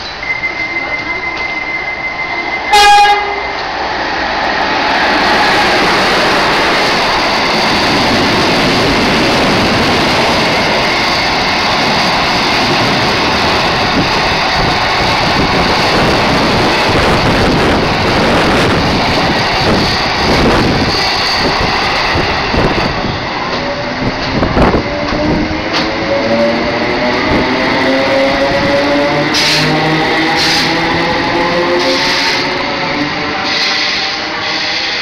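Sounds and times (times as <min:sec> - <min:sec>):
electric passenger train passing: 0:00.0 - 0:35.0
freight train wheels rumbling on rails: 0:00.0 - 0:35.0.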